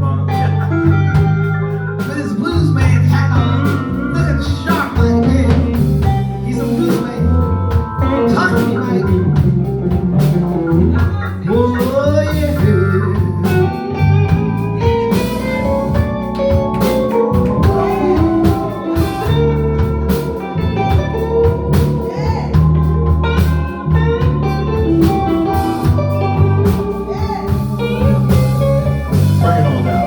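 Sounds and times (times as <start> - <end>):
blues band playing: 0.0 - 30.0.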